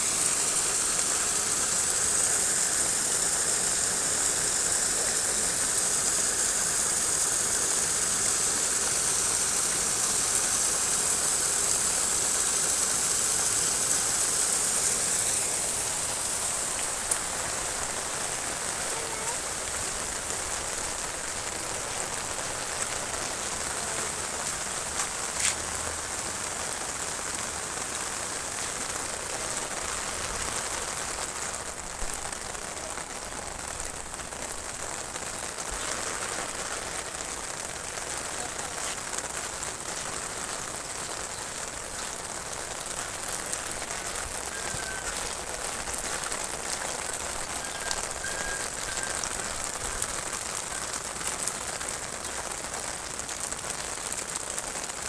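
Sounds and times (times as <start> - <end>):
water rushing in canal: 0.0 - 55.0.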